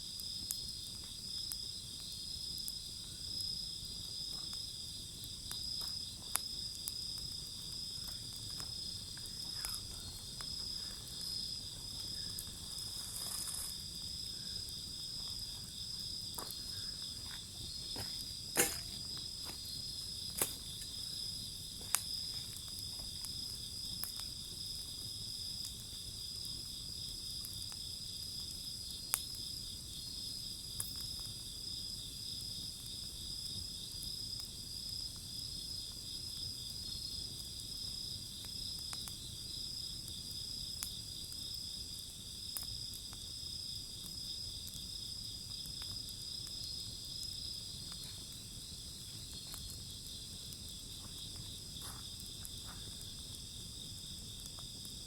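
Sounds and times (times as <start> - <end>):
wood fire popping: 0.0 - 55.0
insects chirping: 0.1 - 55.0.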